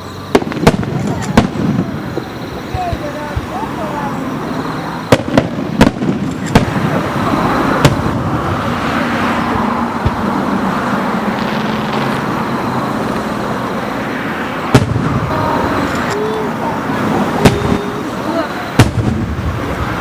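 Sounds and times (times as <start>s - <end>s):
fireworks banging: 0.0s - 20.0s
steady noisy background: 0.0s - 20.0s.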